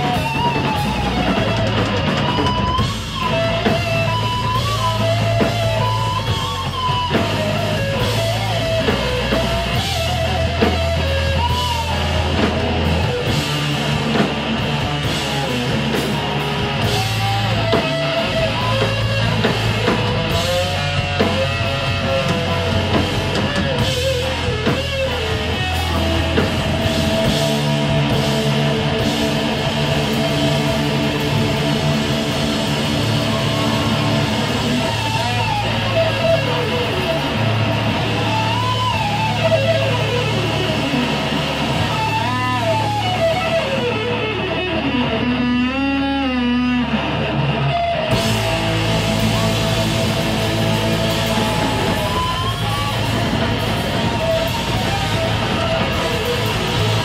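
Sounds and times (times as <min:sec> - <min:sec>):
drum kit with cymbals: 0:00.0 - 0:45.0, 0:47.7 - 0:57.0
electric guitar lead: 0:00.0 - 0:57.0.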